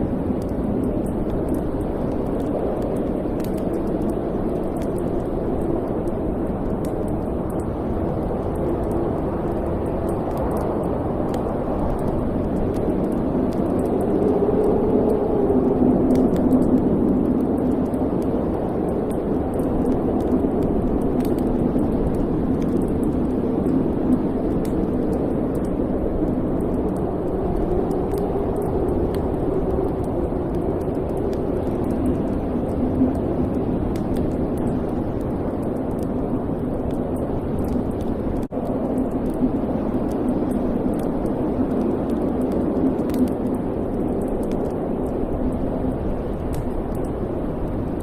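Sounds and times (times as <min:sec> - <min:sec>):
fire crackling: 0:00.0 - 0:48.0
fire roaring: 0:00.1 - 0:48.0.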